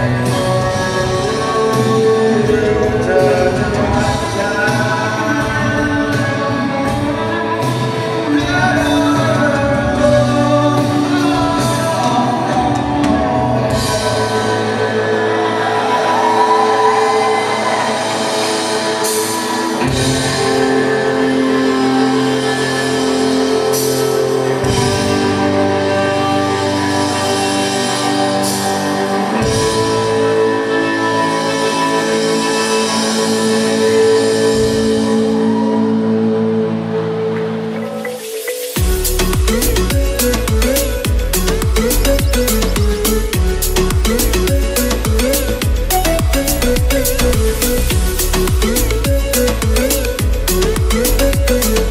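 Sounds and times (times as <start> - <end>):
drum kit: 0.0 - 51.9
electric guitars: 0.0 - 51.9
person singing: 0.0 - 51.9.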